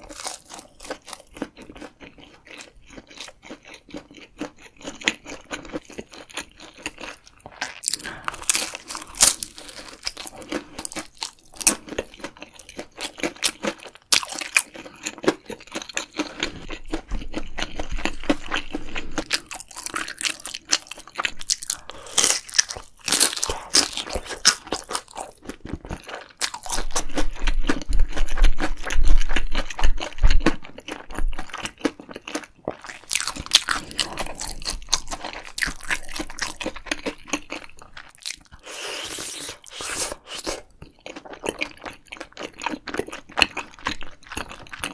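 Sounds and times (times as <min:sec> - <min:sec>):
crunchy chewing: 0:00.0 - 0:44.9.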